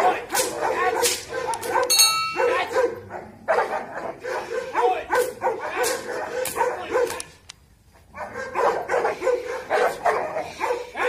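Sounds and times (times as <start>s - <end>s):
dogs barking: 0.0s - 7.4s, 8.1s - 11.0s.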